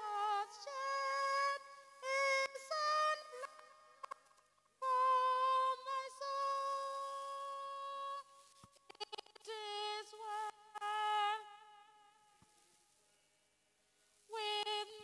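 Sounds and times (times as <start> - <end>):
woman singing unaccompanied: 0.0 - 4.2, 4.8 - 12.3, 14.3 - 15.0.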